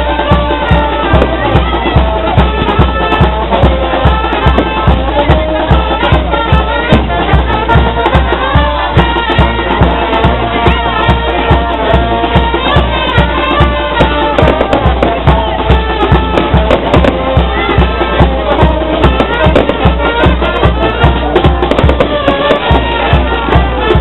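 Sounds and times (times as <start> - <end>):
music with steady drum beat: 0.0 - 24.0.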